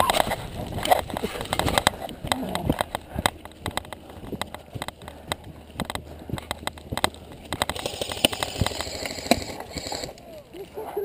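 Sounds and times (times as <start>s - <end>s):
footsteps on dirt trail: 0.0s - 11.0s.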